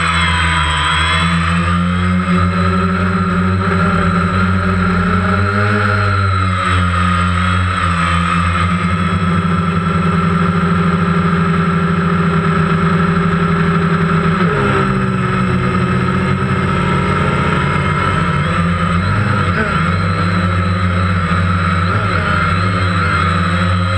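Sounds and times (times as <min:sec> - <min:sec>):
drone propellers whirring: 0:00.0 - 0:23.9.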